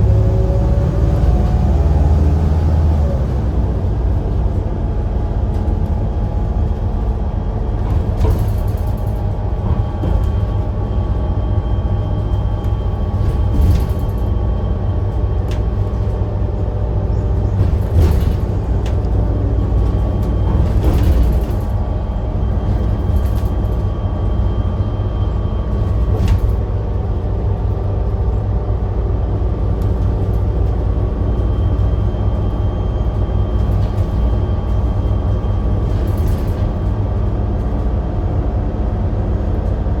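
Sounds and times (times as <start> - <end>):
diesel bus engine drone: 0.0 - 40.0.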